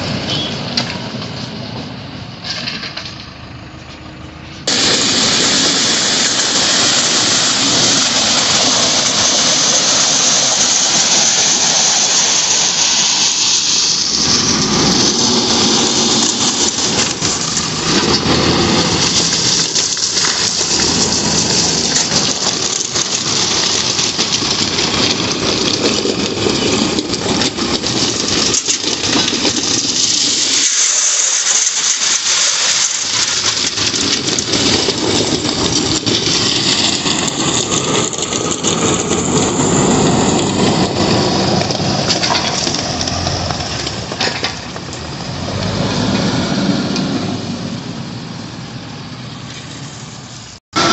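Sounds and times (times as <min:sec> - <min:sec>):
diesel engine under load: 0:00.0 - 0:50.9
crushed stone scraping and pouring: 0:04.6 - 0:47.3.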